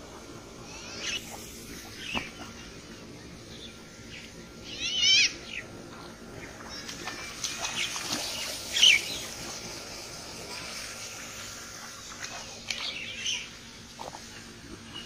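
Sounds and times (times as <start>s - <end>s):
birds chirping: 0.5s - 9.6s, 11.8s - 15.0s.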